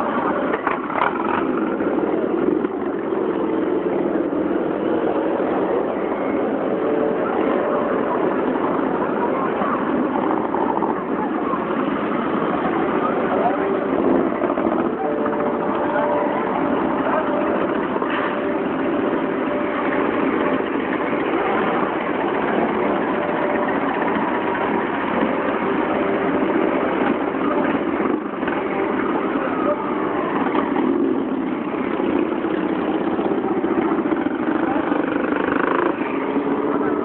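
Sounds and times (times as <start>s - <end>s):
motorcycles riding past: 0.0s - 37.0s.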